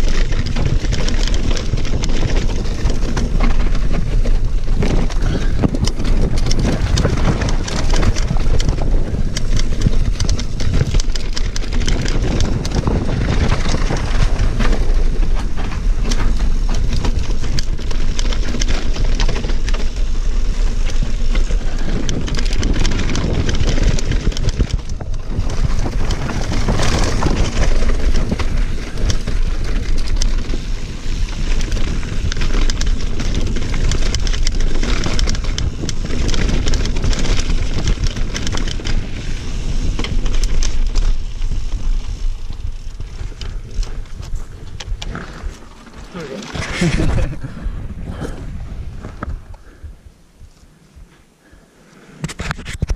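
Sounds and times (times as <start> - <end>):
bike chain and frame rattling: 0.0 - 48.4
tyres crunching on stones: 0.0 - 49.8
wind on microphone: 0.0 - 51.1.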